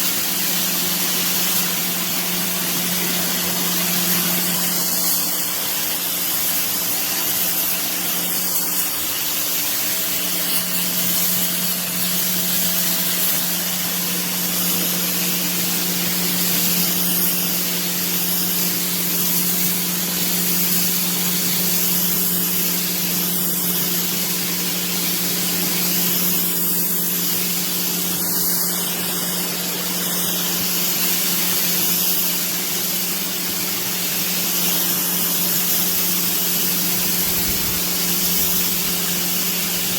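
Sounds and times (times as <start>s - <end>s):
motor and pump humming: 0.0s - 39.9s
pressure washer jet hissing: 0.0s - 39.9s.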